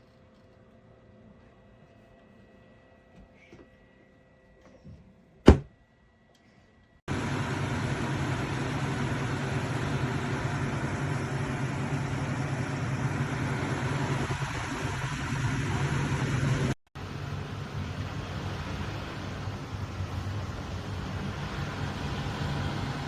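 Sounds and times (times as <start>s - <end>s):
air conditioner running: 0.0s - 23.0s.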